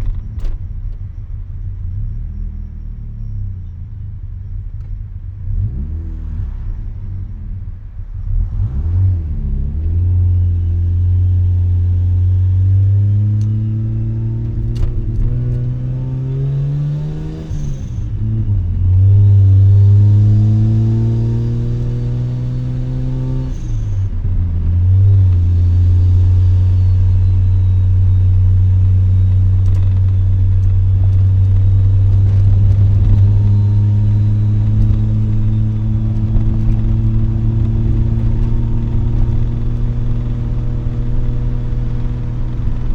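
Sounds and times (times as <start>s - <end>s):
rotary engine accelerating: 8.2s - 42.9s.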